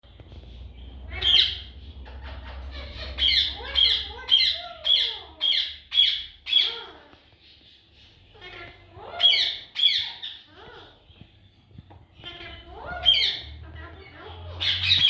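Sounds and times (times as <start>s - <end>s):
parrots squawking: 0.7s - 11.3s, 12.1s - 15.0s.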